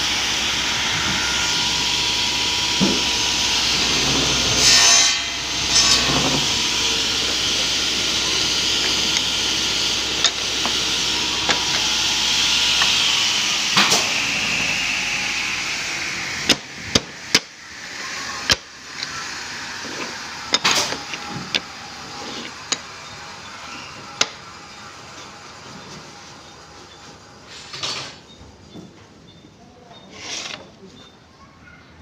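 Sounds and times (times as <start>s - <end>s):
workshop machine noise: 0.0s - 32.0s.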